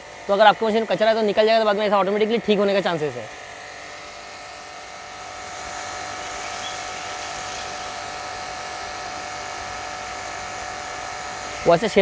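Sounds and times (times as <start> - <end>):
pressure washer motor humming: 0.0 - 12.0.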